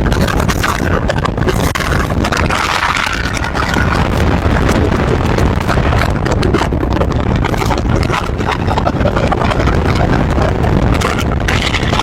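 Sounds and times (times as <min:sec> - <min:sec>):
tyre and wind noise: 0:00.0 - 0:12.0.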